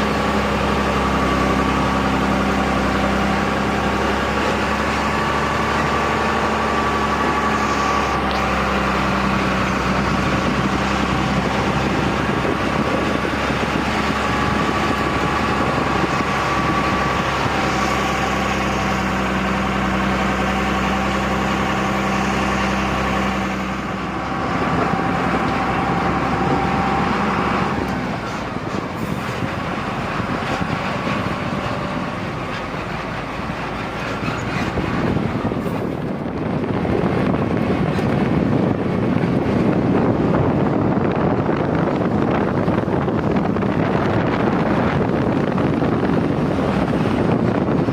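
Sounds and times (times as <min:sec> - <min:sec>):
truck diesel engine droning: 0:00.0 - 0:47.9.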